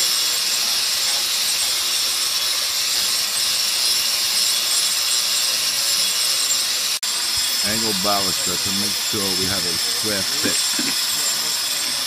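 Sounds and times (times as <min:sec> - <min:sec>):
angle grinder cutting concrete: 0:00.0 - 0:12.0.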